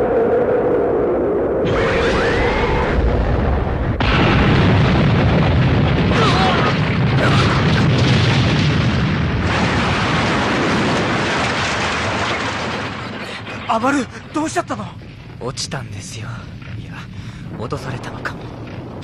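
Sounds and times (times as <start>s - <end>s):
deep explosion blast: 0.0s - 15.6s.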